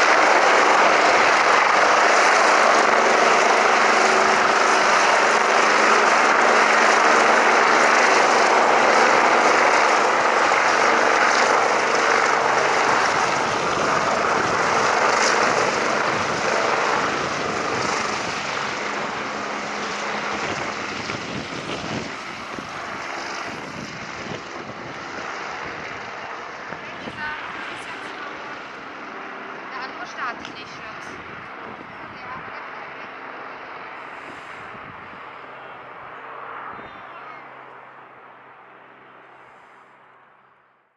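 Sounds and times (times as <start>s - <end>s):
helicopter hovering: 0.0s - 40.0s.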